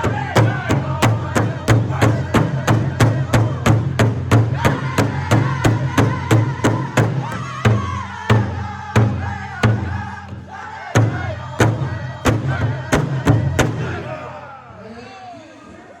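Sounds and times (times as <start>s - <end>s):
large drum beating: 0.0s - 14.1s
group singing in chorus: 0.0s - 14.6s.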